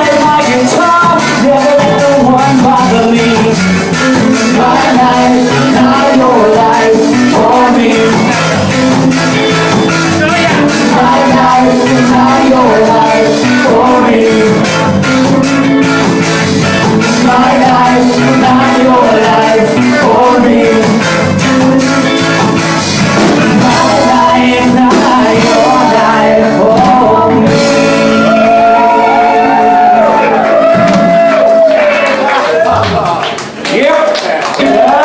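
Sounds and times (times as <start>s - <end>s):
ska band playing: 0.0s - 33.1s.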